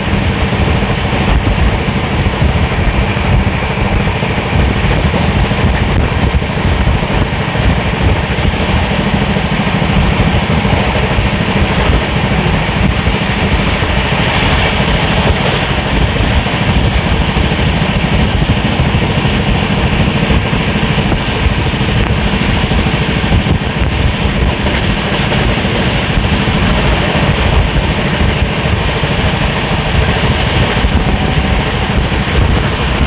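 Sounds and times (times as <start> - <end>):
rushing wind: 0.0 - 33.0
train wheels rumbling on rail: 0.0 - 33.0.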